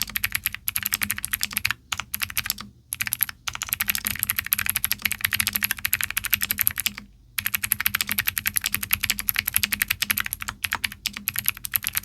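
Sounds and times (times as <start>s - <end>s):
typing on clicky mechanical keyboard: 0.0s - 12.0s.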